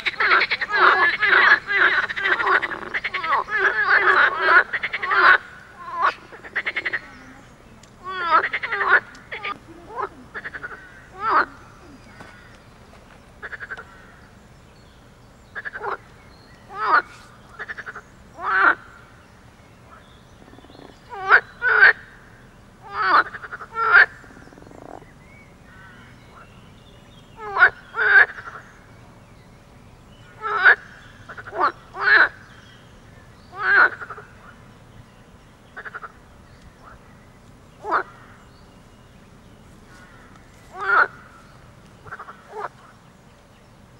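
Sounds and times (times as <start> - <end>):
frogs croaking: 0.0 - 43.9.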